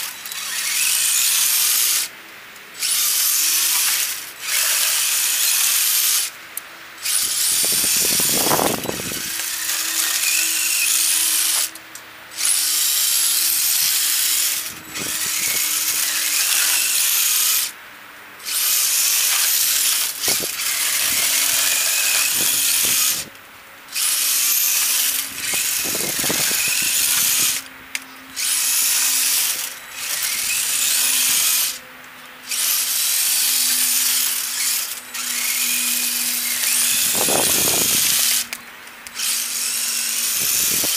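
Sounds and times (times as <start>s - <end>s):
electric motor and gears whining: 0.0s - 40.9s.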